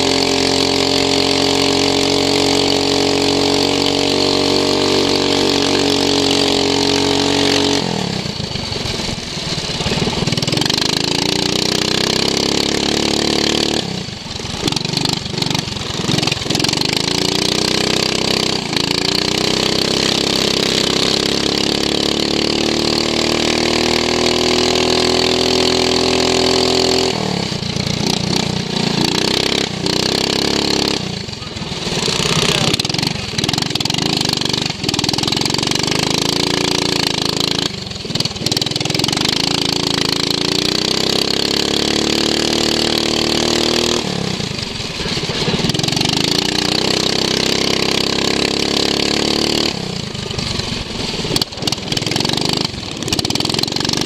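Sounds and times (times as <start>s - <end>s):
lawn mower engine revving: 0.0s - 54.0s.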